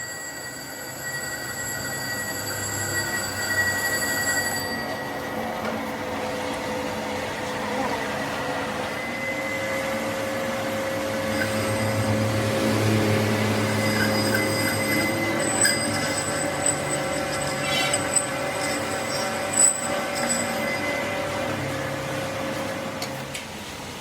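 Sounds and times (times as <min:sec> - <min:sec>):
workshop machine humming and whining: 0:00.0 - 0:24.0.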